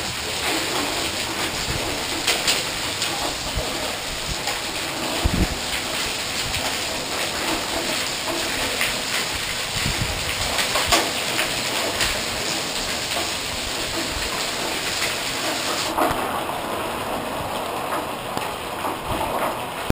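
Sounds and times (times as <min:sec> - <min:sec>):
hailstones ticking: 0:00.0 - 0:19.9
rain hissing: 0:00.0 - 0:19.9.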